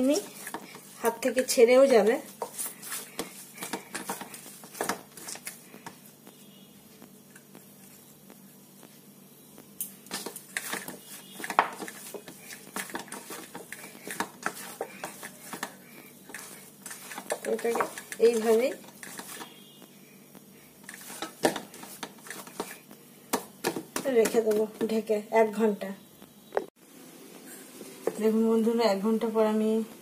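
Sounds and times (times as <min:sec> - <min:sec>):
dough being kneaded by hand: 0:00.0 - 0:25.2.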